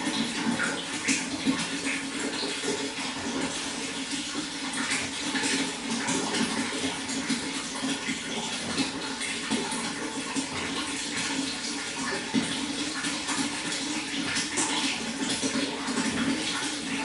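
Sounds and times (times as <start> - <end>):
running water: 0.0 - 17.0
small water splashes: 0.0 - 17.0.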